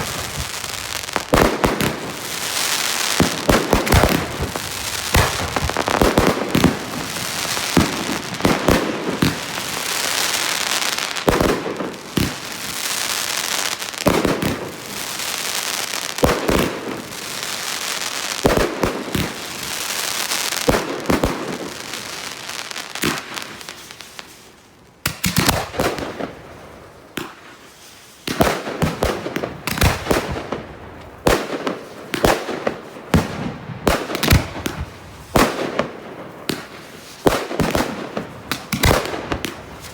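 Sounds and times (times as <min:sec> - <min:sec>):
fireworks crackling: 0:00.0 - 0:26.1, 0:33.1 - 0:39.9.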